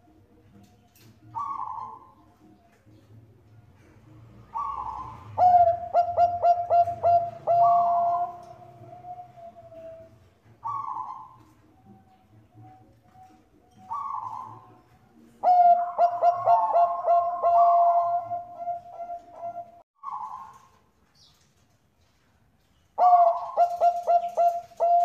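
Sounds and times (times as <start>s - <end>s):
dove cooing: 1.0s - 20.8s, 23.0s - 25.0s.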